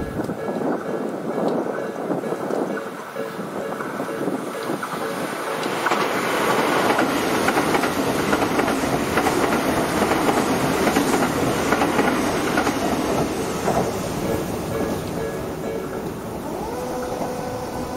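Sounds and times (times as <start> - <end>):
train rumbling past: 0.0 - 17.9
wheels clicking over rail joints: 0.0 - 17.9.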